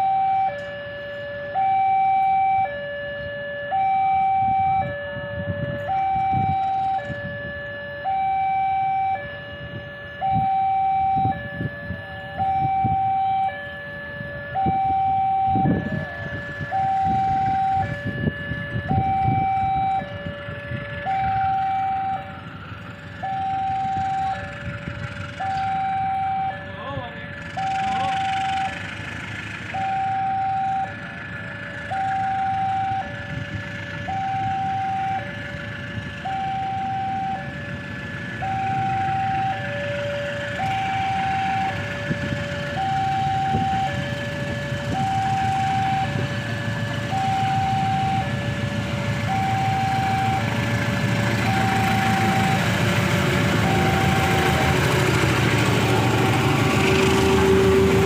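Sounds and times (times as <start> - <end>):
diesel locomotive rumble: 0.0 - 58.0
level crossing warning alarm: 0.0 - 58.0.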